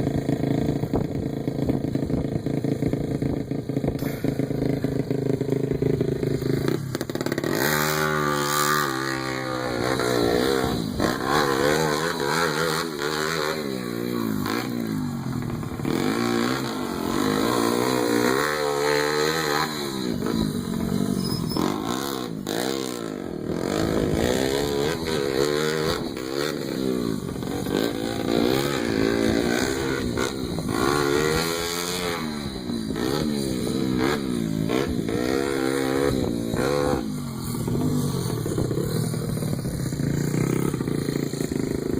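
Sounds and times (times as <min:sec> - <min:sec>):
pit bike engine revving: 0:00.0 - 0:41.9.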